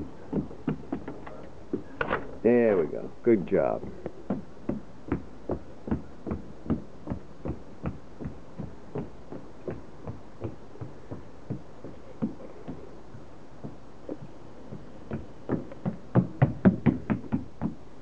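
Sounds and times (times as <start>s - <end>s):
child footsteps on wooden deck: 0.0s - 2.0s, 3.5s - 18.0s.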